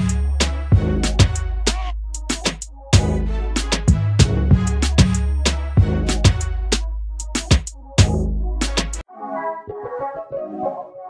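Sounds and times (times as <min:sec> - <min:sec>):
music with drum beat and bass: 0:00.0 - 0:09.0.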